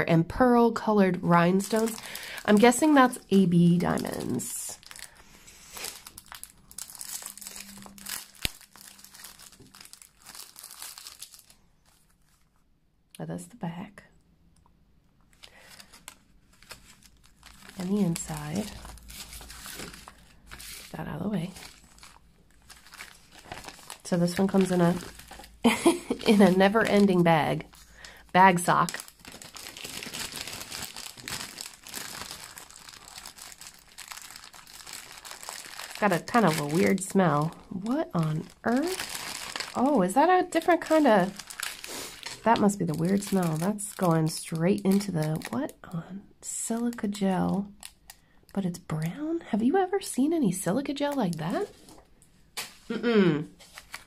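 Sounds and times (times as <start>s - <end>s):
plastic packaging crinkling: 1.4s - 12.6s, 15.2s - 45.8s, 46.8s - 48.2s, 53.6s - 54.0s.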